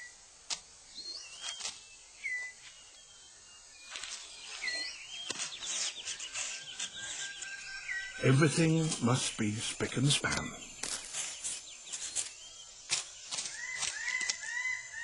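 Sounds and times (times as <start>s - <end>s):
rustles: 0.0s - 15.0s
birds whistling: 0.8s - 15.0s.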